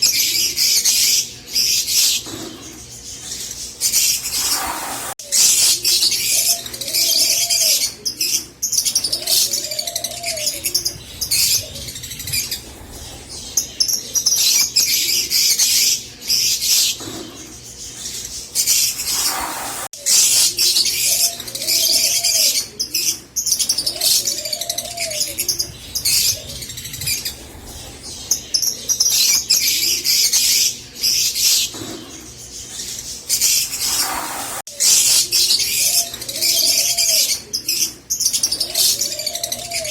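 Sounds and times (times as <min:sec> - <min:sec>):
lovebirds chattering twitter: 0:00.0 - 0:39.9.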